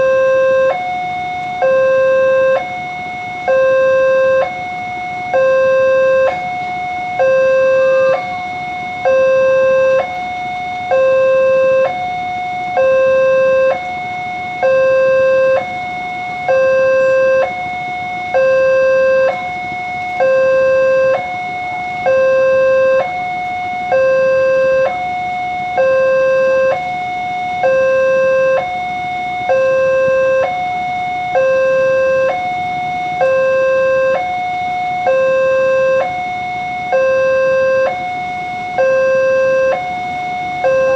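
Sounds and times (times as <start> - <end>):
level crossing two-tone alarm: 0.0 - 40.9.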